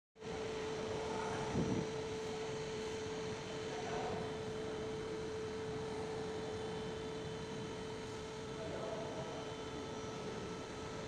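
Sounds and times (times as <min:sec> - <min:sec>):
steady mid-range hum: 0:00.2 - 0:11.0.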